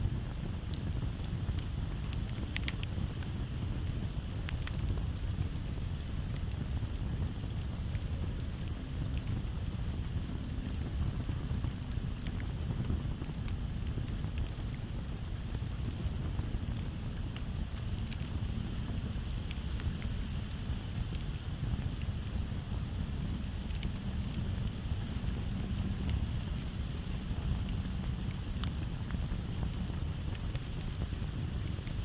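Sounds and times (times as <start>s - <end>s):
campfire crackling: 0.0s - 32.0s
crickets chirring: 0.0s - 32.0s.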